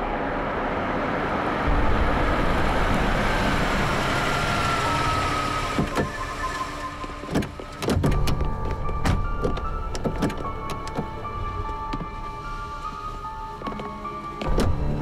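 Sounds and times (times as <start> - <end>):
vintage engines rumbling: 0.0 - 12.3.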